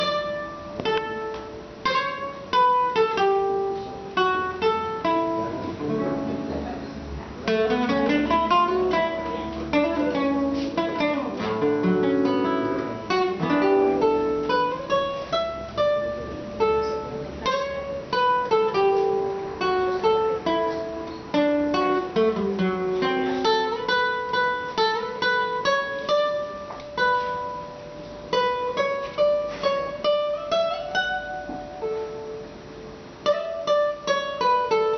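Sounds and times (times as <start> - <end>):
plucked string trio music: 0.0 - 34.9.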